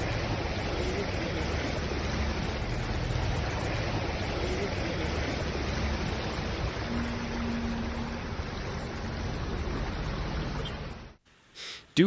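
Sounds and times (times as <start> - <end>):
rushing floodwater: 0.0 - 11.2.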